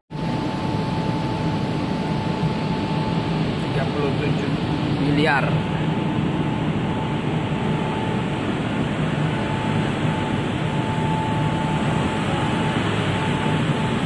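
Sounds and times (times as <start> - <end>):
faint steady whine: 0.1 - 14.0
ventilation system rush and hum: 0.1 - 14.0.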